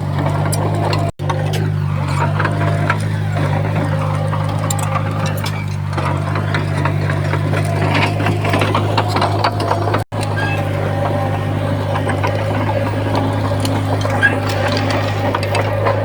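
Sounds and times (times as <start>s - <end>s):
diesel machine engine hum: 0.0s - 16.0s
metallic clanking and rattling: 0.1s - 16.0s.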